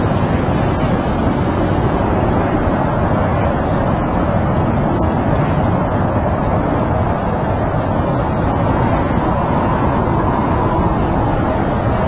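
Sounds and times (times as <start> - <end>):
snowstorm wind blowing: 0.0 - 12.0.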